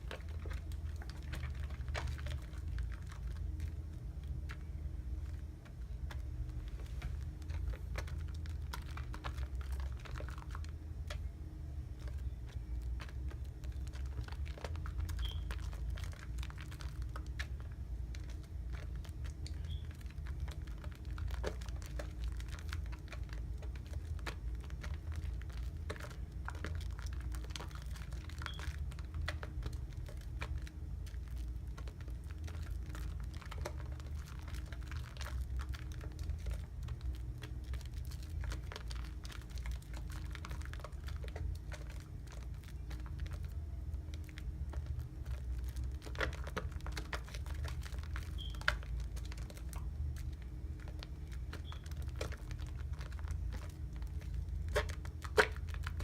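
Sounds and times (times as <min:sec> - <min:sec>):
soap lather squishing: 0:00.0 - 0:56.0
steady low hum: 0:00.0 - 0:56.0.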